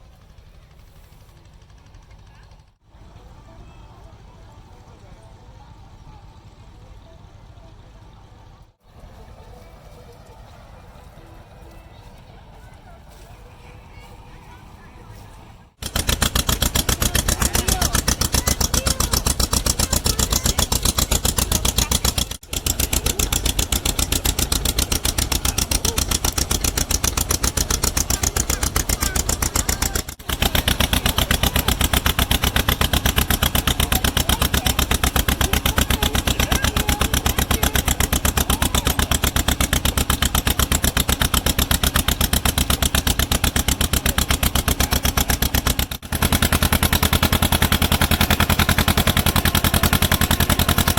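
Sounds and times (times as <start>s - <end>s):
engine chugging: 0.0s - 50.9s.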